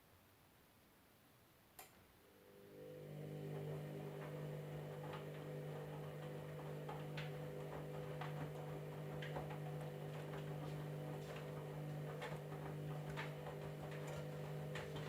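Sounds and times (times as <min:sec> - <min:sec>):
washing machine hum: 0:02.3 - 0:15.0.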